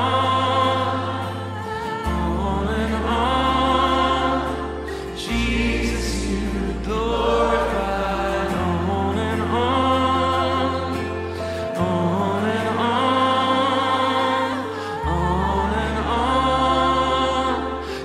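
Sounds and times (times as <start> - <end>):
keyboard chords: 0.0 - 18.0
people singing worship song: 0.0 - 18.0
steady bass: 0.0 - 18.0.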